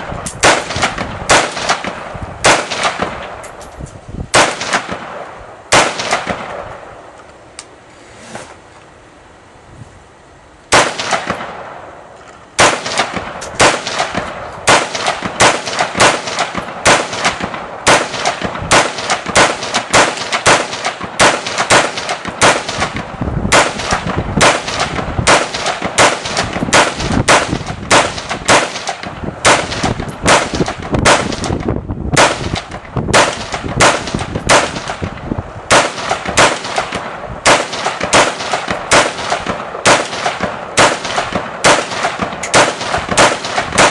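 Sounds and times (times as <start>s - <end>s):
gunshot echo: 0.0s - 3.4s, 4.4s - 6.7s, 10.7s - 11.9s, 12.6s - 35.1s, 35.7s - 43.9s
rifle firing single shots: 0.0s - 3.5s, 4.3s - 7.0s, 10.7s - 12.0s, 12.6s - 43.9s.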